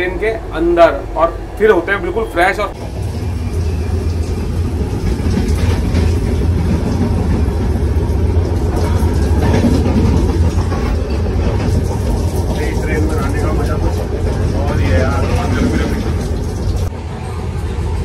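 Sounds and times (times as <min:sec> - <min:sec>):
train running low rumble: 0:00.0 - 0:18.0.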